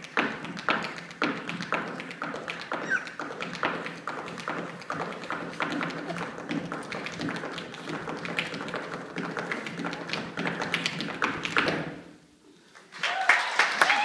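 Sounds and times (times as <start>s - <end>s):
hard shoes tapping on wooden floor: 0.0s - 12.0s.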